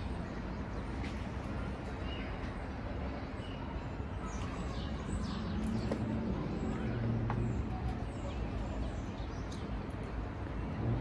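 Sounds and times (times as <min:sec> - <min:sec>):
distant traffic rumble: 0:00.0 - 0:11.0
small birds chirping: 0:00.0 - 0:11.0.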